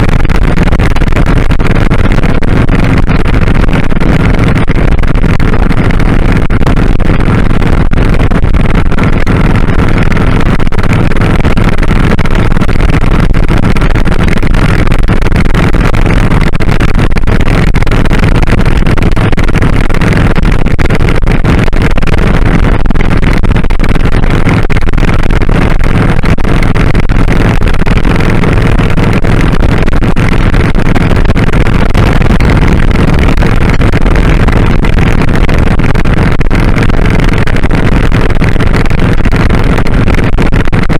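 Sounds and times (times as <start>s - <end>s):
motorcycle engine running: 0.0s - 40.2s
road and wind noise: 0.0s - 40.9s.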